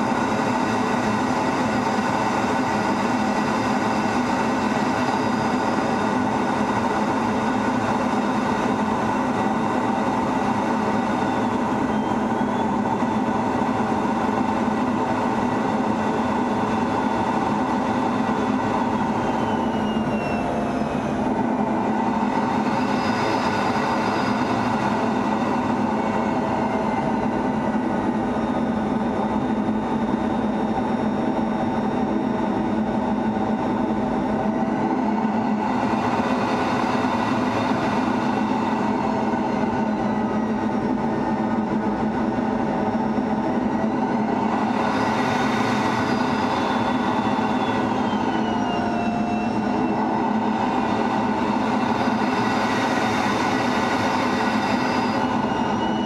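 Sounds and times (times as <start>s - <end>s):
jet engine rumble with whine: 0.0s - 56.0s.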